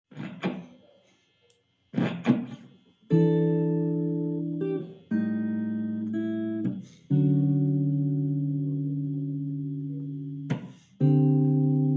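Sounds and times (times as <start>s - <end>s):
guitar chords ringing: 2.0s - 11.9s.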